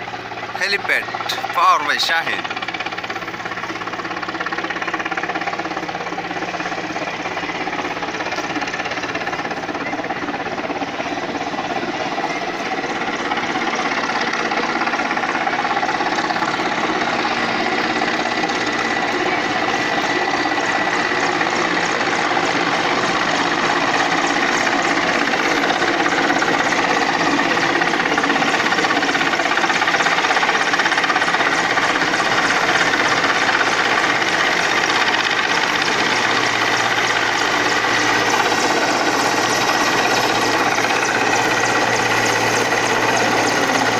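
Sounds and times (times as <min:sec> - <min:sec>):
helicopter rotor chopping: 0:00.0 - 0:43.9.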